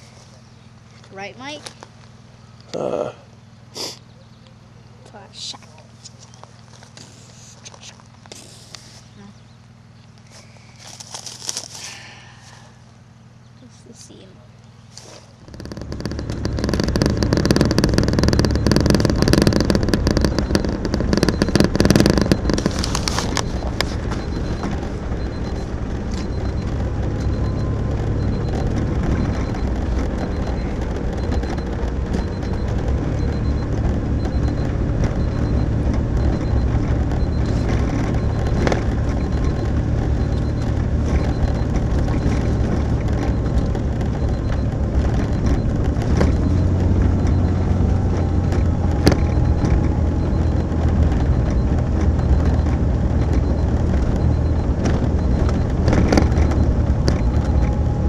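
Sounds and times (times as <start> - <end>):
road noise: 0.0 - 58.0
vehicle engine drone: 0.0 - 58.0.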